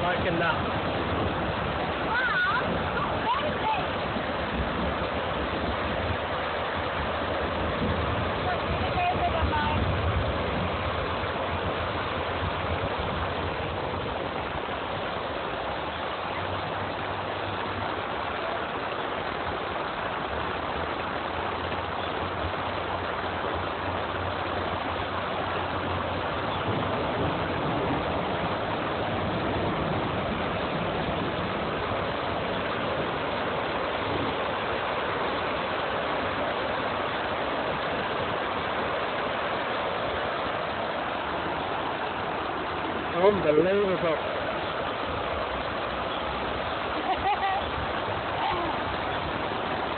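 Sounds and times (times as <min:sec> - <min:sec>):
floodwater rushing over steps: 0:00.0 - 0:49.9
heavy rain: 0:00.0 - 0:49.9.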